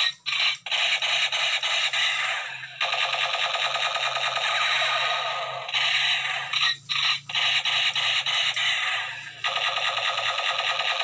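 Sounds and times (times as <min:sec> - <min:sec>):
electronic machine-gun rattle: 0:00.0 - 0:11.0.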